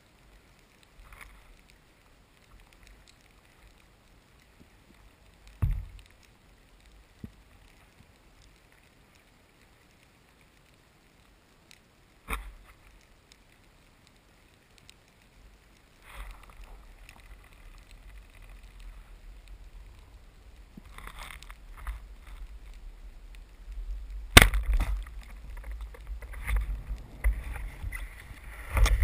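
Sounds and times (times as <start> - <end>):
faint clicks: 0.0 - 29.0
muffled underwater hiss: 0.0 - 29.0
rush of moving water: 0.0 - 29.0.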